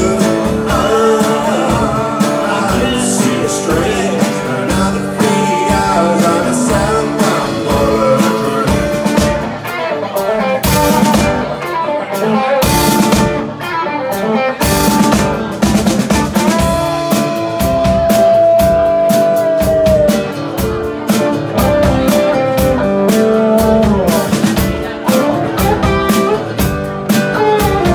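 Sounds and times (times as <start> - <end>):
loud drum and cymbal hits: 0.0 - 9.6, 10.6 - 11.6, 12.6 - 13.6, 14.6 - 27.9
rock band playing live: 0.0 - 27.9.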